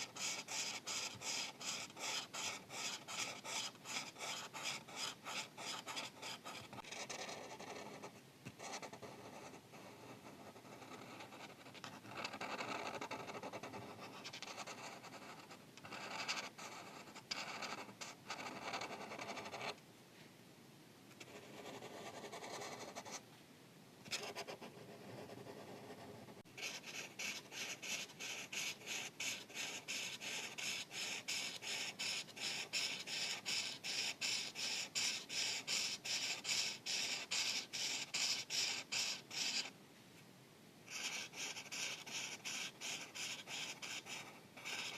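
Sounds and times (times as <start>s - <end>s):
marker scratching on paper: 0.0s - 19.8s, 21.2s - 23.2s, 24.1s - 39.7s, 40.9s - 44.9s.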